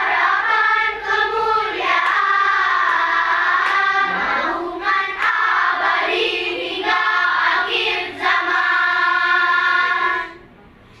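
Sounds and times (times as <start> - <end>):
children's choir singing: 0.0 - 10.5.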